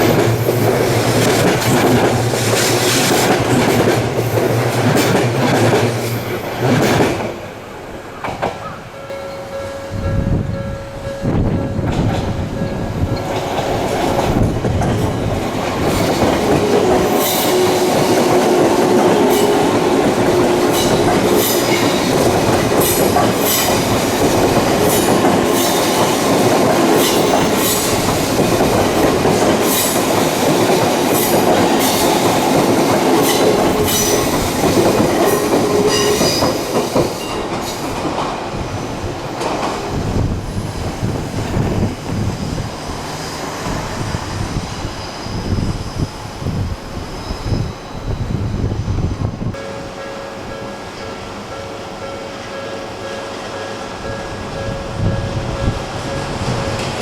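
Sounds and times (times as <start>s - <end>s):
steady train whine: 0.0s - 57.0s.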